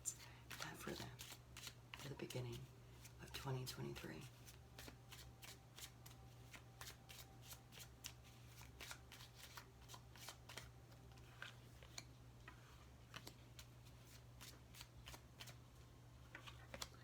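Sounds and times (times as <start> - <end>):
cards being shuffled: 0.2 - 15.6, 16.2 - 17.0.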